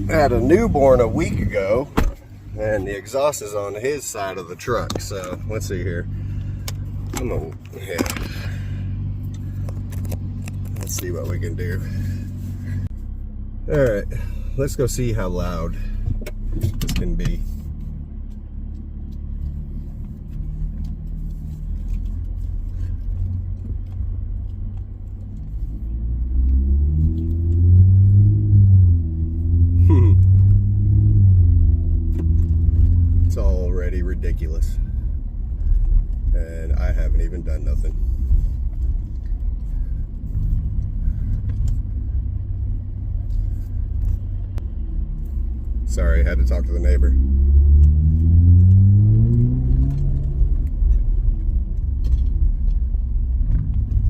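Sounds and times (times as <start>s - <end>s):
truck engine rumbling and accelerating: 0.0s - 54.0s.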